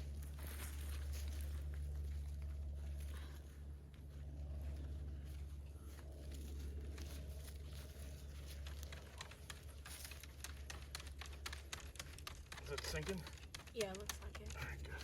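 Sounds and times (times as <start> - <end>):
low engine-like hum: 0.0 - 15.0
soil crackling: 0.0 - 15.0.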